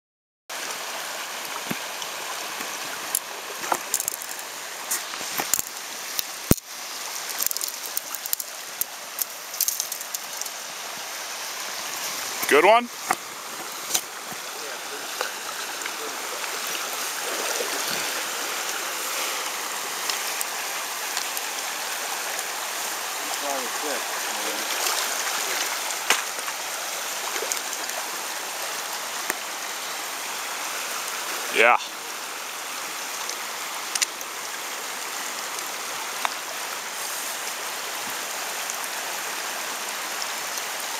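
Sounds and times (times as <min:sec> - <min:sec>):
stream rushing over stones: 0:00.5 - 0:40.9.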